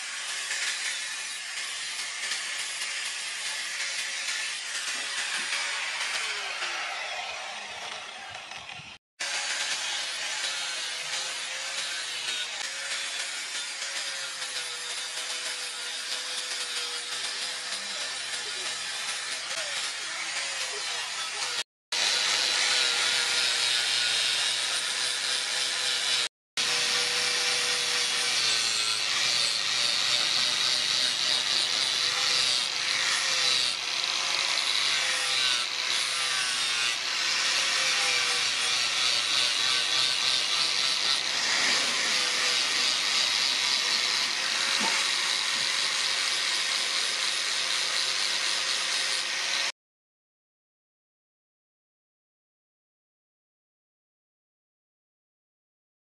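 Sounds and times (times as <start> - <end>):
angle grinder grinding steel: 0.0 - 49.7.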